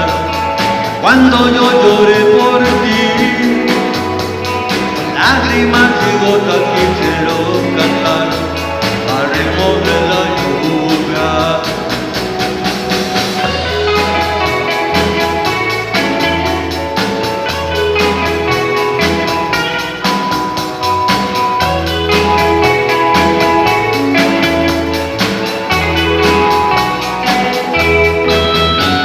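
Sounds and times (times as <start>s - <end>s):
slow latin ballad band music: 0.0s - 29.0s.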